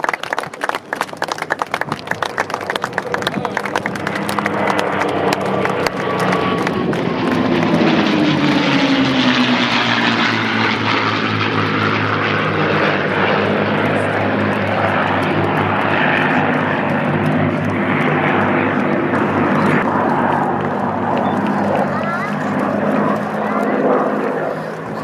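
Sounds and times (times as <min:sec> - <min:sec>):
propeller plane engines droning: 0:00.0 - 0:25.0.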